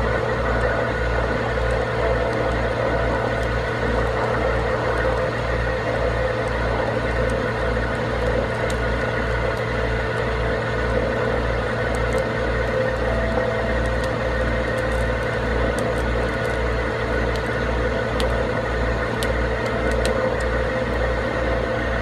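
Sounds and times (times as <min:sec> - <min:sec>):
steady hum: 0:00.0 - 0:22.0
truck engine running: 0:00.0 - 0:22.0.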